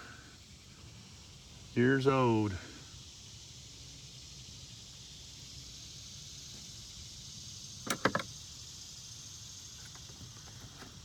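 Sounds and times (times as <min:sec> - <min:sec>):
faint high outdoor hiss: 0:00.0 - 0:11.0.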